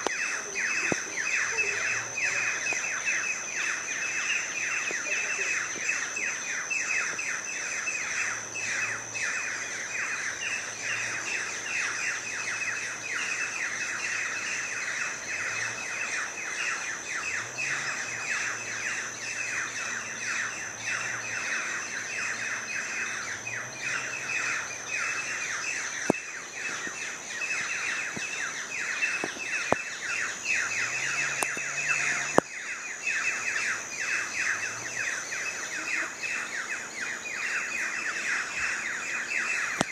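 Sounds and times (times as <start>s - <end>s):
birds chirping and chattering: 0.0s - 39.9s
steady high-pitched whine: 0.0s - 39.9s.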